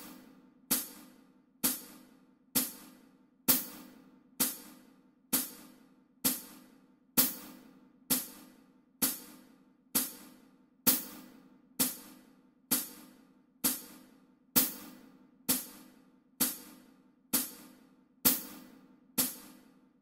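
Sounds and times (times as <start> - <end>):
cymbal-like percussion ticks: 0.0 - 19.9.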